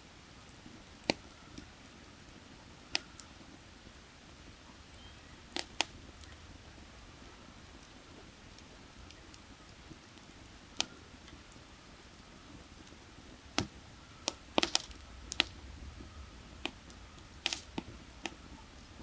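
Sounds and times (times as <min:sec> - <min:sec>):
firewood crackling and popping: 0:00.0 - 0:19.0.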